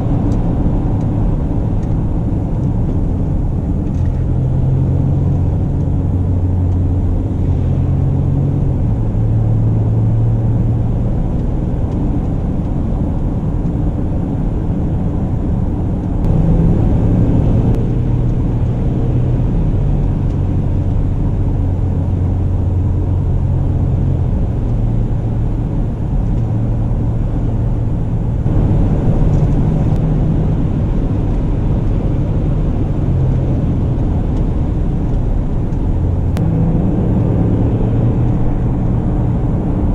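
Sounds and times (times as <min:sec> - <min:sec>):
car engine drone: 0:00.0 - 0:39.9
road and tyre noise: 0:00.0 - 0:39.9.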